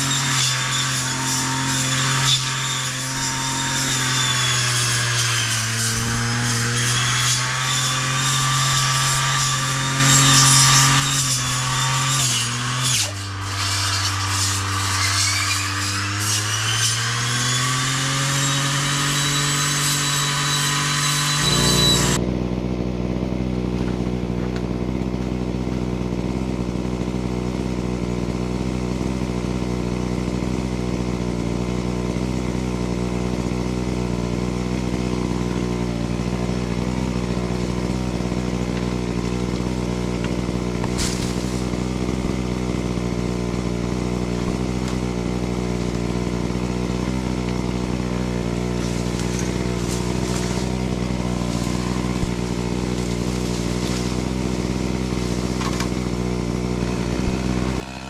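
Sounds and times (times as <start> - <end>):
small petrol engine: 0.0 - 16.0, 16.6 - 58.0.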